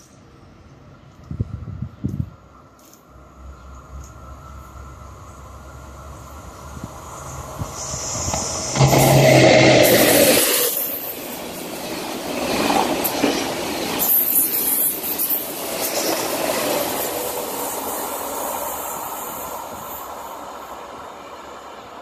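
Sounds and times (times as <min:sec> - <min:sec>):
electric train passing: 0:02.4 - 0:22.0.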